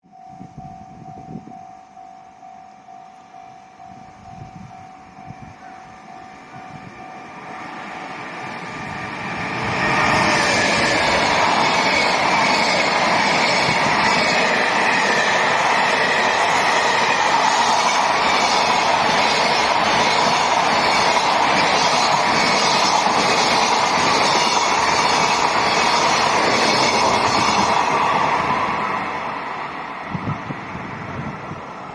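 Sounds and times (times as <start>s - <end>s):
freight train passing: 0.1s - 31.9s.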